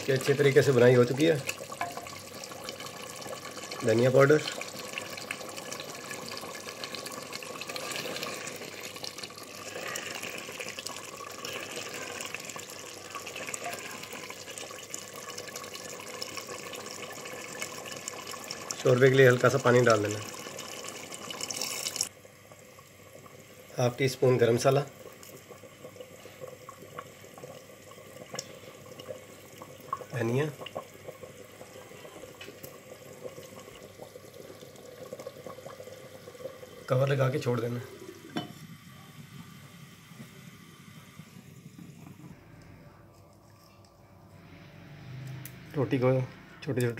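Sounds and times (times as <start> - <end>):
curry sizzling in oil: 0.0 - 42.3
broth bubbling in a pot: 0.0 - 43.6.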